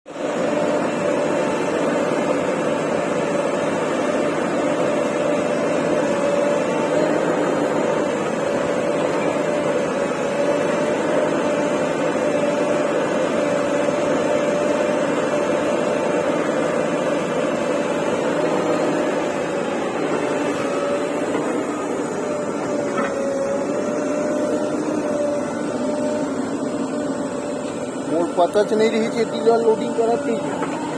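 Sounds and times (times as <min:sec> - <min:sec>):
heavy machinery engine running: 0:00.1 - 0:30.9
wavering machine whine: 0:00.1 - 0:30.9.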